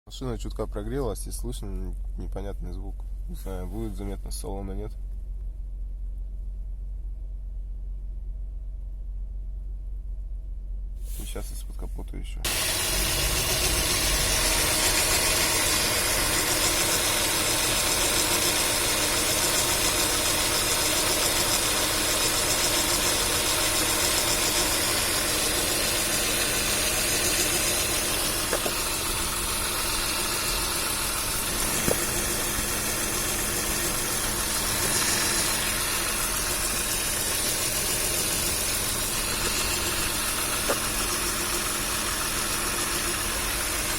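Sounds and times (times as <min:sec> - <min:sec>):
car engine idling: 0:00.3 - 0:43.9.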